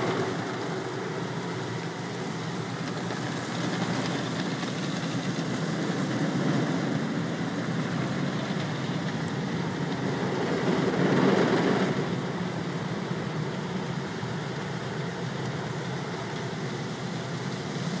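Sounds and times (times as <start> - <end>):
car wash water spray: 0.0 - 18.0.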